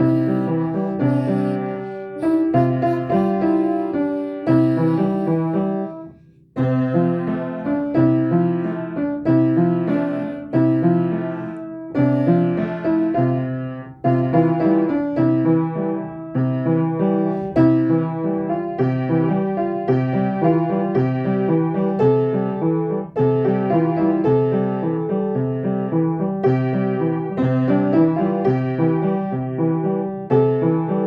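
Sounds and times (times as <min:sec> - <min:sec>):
gentle piano piece: 0:00.0 - 0:31.0.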